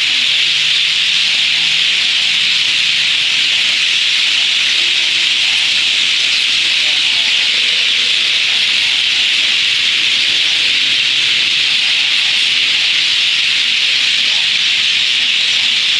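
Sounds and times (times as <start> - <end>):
flock of birds chattering: 0.0 - 15.9.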